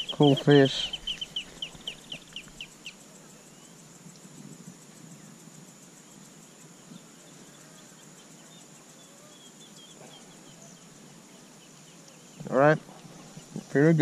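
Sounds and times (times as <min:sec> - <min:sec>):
faint bird chirps: 0:00.0 - 0:03.9, 0:06.0 - 0:14.0
high-pitched insect drone: 0:00.0 - 0:14.0.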